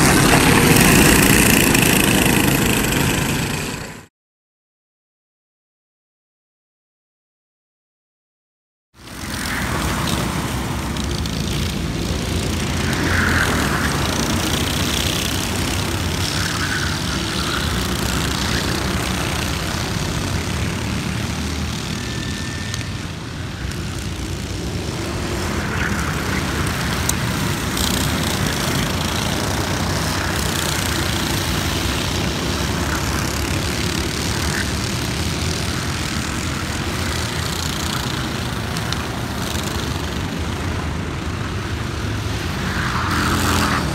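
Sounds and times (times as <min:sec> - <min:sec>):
racing kart engines buzzing: 0:00.0 - 0:04.1, 0:09.0 - 0:43.9.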